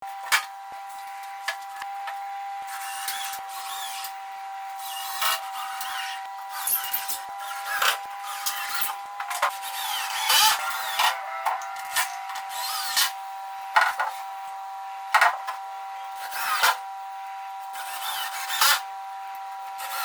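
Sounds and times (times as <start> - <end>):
high-pitched hum: 0.0 - 20.0.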